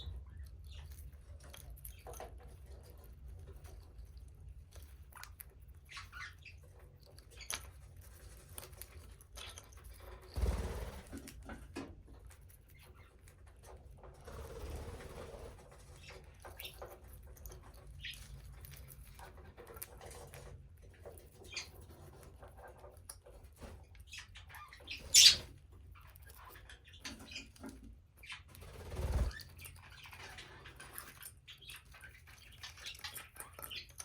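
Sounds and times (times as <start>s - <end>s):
budgies pecking and nibbling: 0.0s - 34.0s.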